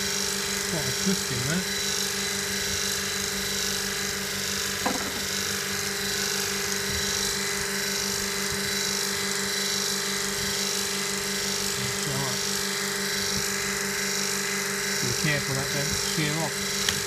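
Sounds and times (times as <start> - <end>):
machine hum with high whine: 0.0 - 17.0.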